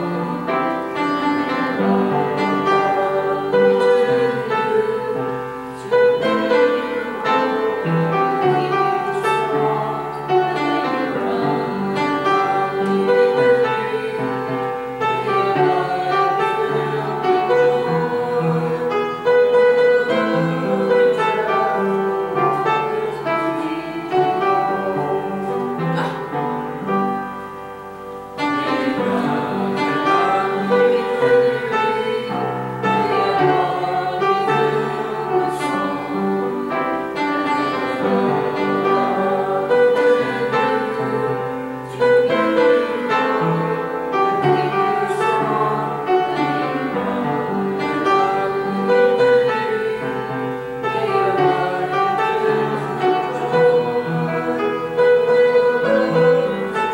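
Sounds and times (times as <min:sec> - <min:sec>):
congregation singing a hymn: 0:00.0 - 0:56.9
piano accompaniment: 0:00.0 - 0:56.9.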